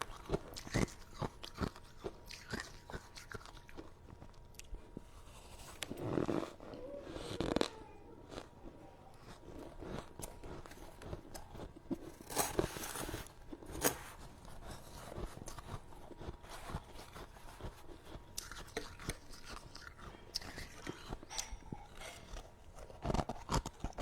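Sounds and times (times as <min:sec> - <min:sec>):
freezer frost crunching and crackling: 0:00.0 - 0:24.0.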